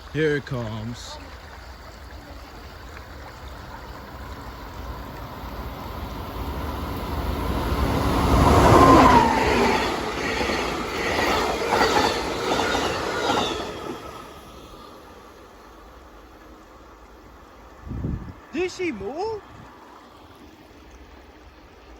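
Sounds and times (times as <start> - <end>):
train wheels on rails: 0.0 - 17.8
passenger train passing: 0.0 - 21.9.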